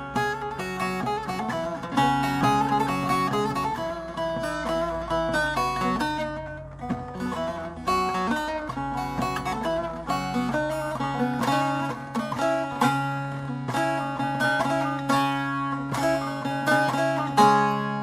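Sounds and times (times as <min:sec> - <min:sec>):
plucked acoustic guitar: 0:00.0 - 0:18.0.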